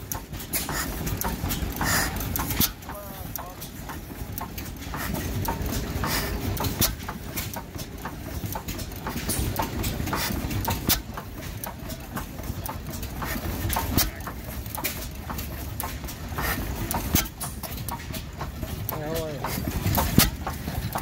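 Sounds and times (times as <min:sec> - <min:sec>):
stationary gas engine running: 0:00.0 - 0:21.0
valve gear clicking: 0:00.0 - 0:21.0.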